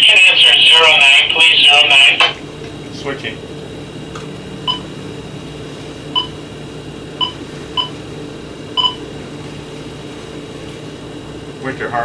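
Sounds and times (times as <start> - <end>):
boat engines humming: 0.0 - 12.0.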